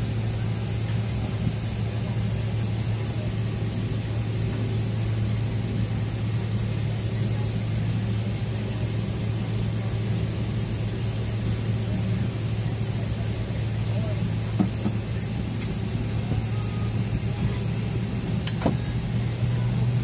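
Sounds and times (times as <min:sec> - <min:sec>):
low cabin hum: 0:00.0 - 0:20.0.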